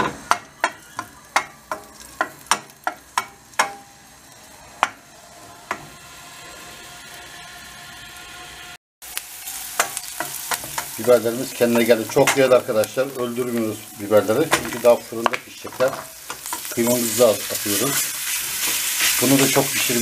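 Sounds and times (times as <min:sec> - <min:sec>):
peppers sizzling in oil: 0:00.0 - 0:20.0.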